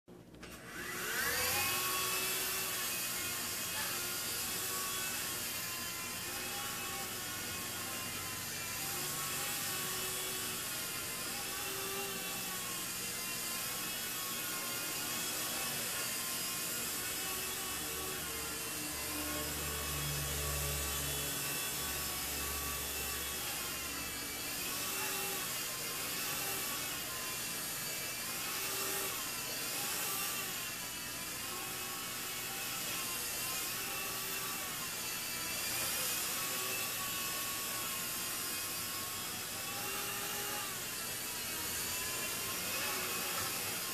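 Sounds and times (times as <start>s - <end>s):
rc helicopter rotor whine: 0.5s - 43.9s.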